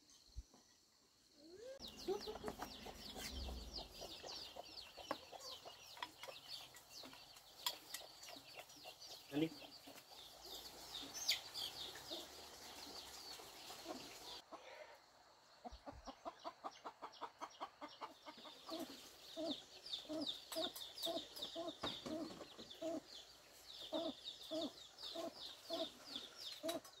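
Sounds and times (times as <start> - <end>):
chickens clucking: 1.8 - 27.0.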